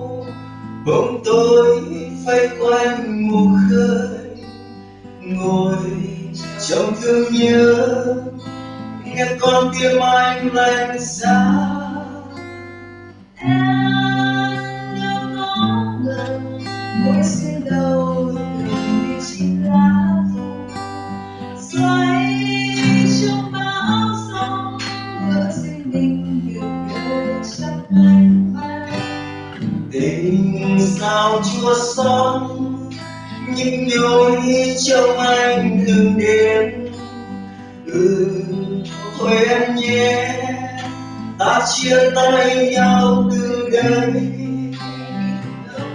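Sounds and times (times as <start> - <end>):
person singing: 0.0 - 4.6, 5.2 - 8.4, 9.0 - 12.4, 13.4 - 45.9
acoustic guitar strumming: 0.0 - 45.9.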